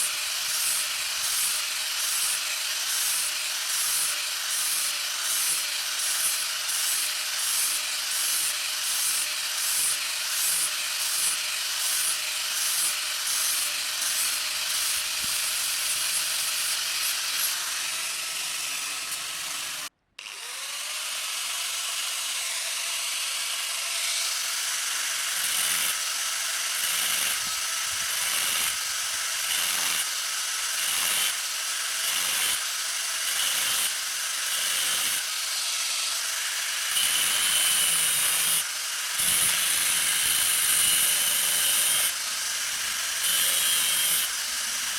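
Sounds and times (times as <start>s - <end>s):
power tool grinding metal: 0.0s - 44.9s.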